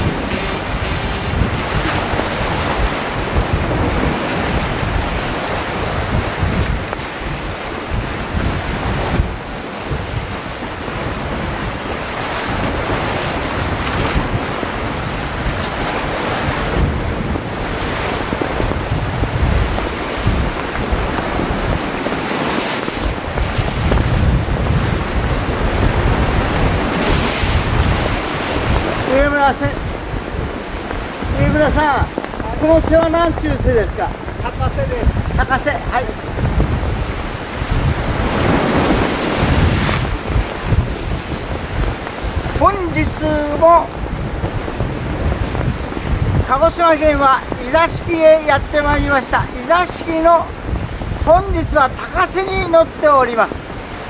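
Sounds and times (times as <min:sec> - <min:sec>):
surf on rocky shore: 0:00.0 - 0:54.0
wind buffeting microphone: 0:00.0 - 0:54.0.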